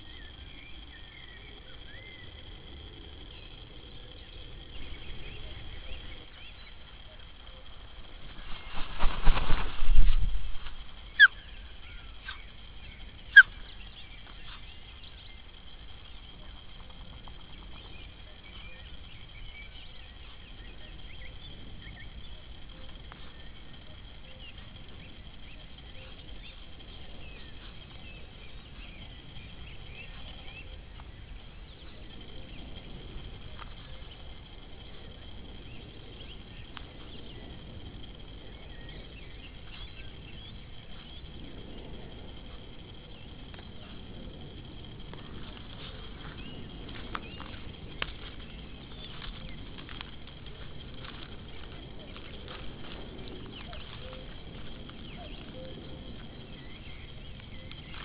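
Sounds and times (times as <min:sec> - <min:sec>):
distant birds chirping: 0:00.0 - 0:58.0
low wind rumble: 0:00.0 - 0:58.0
steady high whine: 0:00.0 - 0:58.0.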